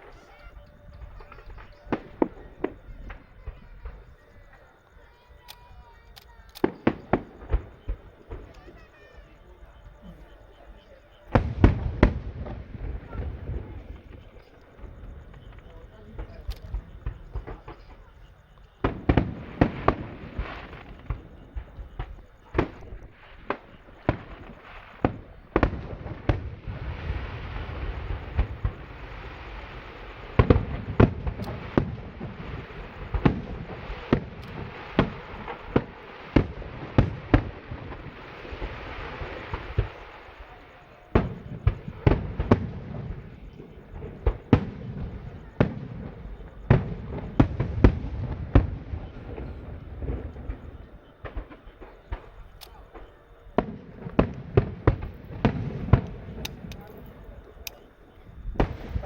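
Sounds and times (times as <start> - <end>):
fireworks bursting: 0.0 - 59.0
fireworks crackle: 0.0 - 59.0.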